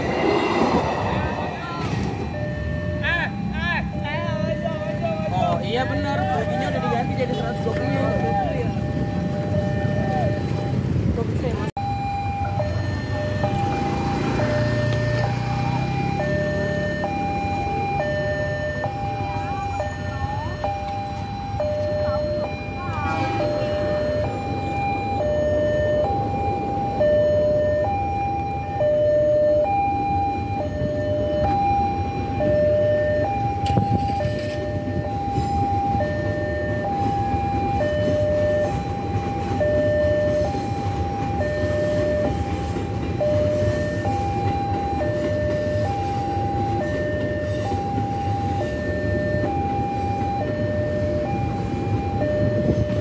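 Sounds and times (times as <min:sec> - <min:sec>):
electric train rumbling past: 0:00.0 - 0:53.0
level crossing two-tone alarm: 0:00.0 - 0:53.0.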